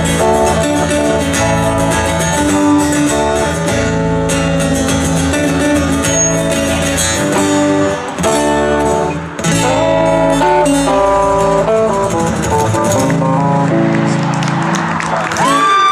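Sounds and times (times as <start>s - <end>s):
strummed acoustic guitar: 0.0s - 15.6s
electric guitar: 0.0s - 15.9s.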